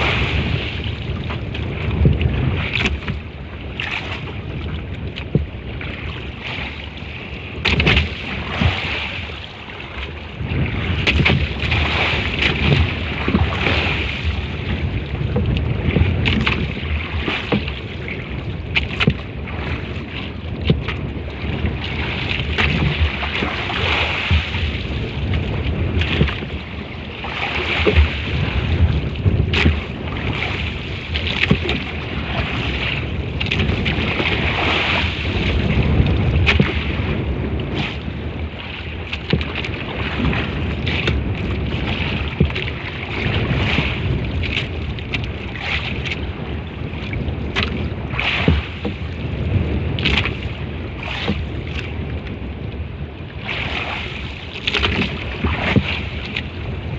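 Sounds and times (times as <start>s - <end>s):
water rushing and splashing: 0.0s - 56.9s
wind buffeting microphone: 0.0s - 56.9s.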